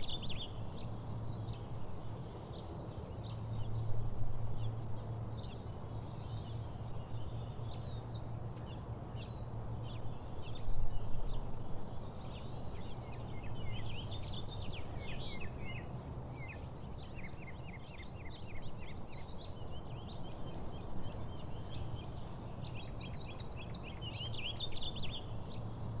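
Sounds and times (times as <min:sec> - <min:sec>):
songbirds chirping and singing: 0:00.0 - 0:26.0.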